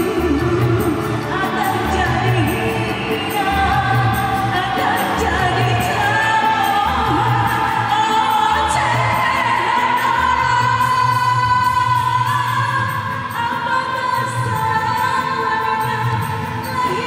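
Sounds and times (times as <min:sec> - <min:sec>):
woman singing into a microphone: 0:00.0 - 0:17.0.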